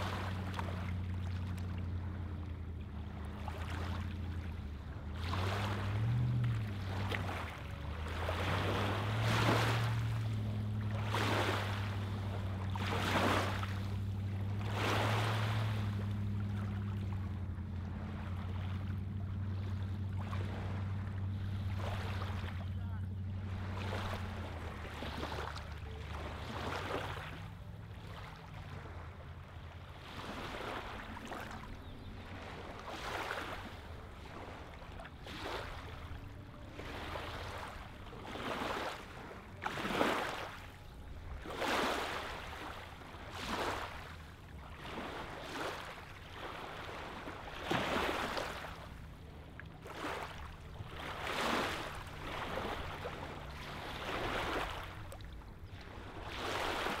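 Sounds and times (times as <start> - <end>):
waves lapping on pebble shore: 0.0 - 1.8, 5.0 - 16.9, 18.2 - 28.9, 29.9 - 31.6, 32.3 - 55.2, 55.8 - 57.0
water splashes: 0.0 - 57.0.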